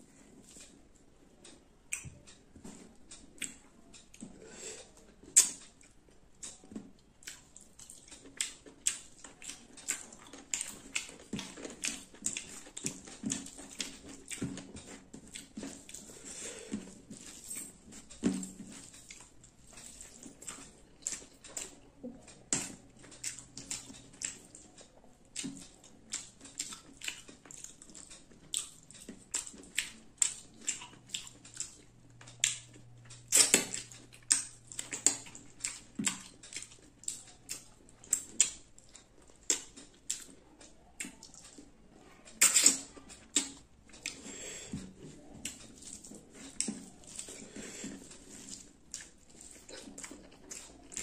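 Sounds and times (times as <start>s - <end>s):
wet chewing: 0.2s - 51.0s.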